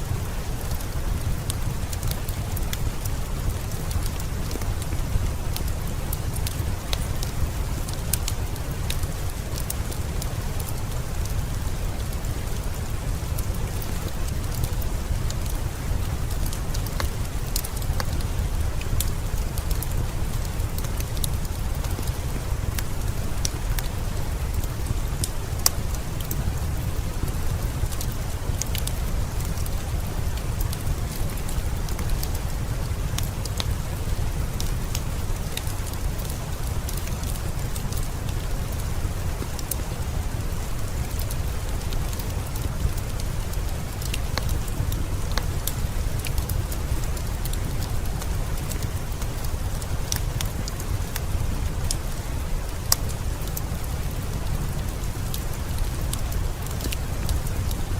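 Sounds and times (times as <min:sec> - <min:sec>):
fireplace crackling: 0:00.0 - 0:57.9
heavy rain falling: 0:00.0 - 0:57.9.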